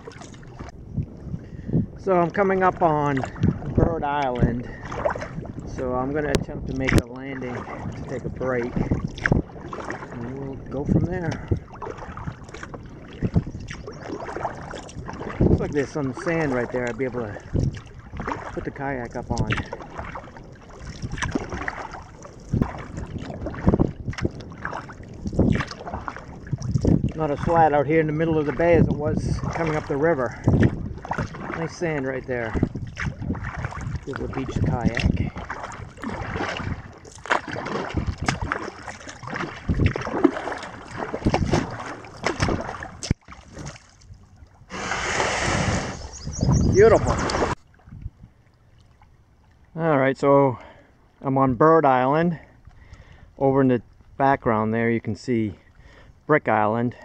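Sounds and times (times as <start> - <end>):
paddle strokes splashing: 0.0 - 1.6, 2.2 - 49.7
wind on microphone: 0.0 - 48.8
waves slapping hull: 0.0 - 57.0.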